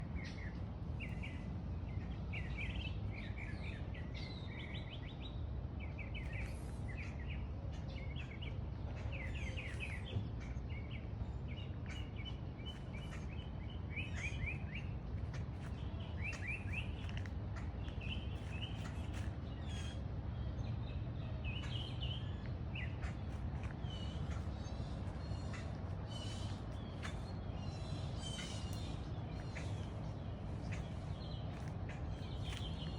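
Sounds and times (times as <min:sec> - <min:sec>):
low background rumble: 0:00.0 - 0:32.9
birds chirping: 0:00.1 - 0:32.9.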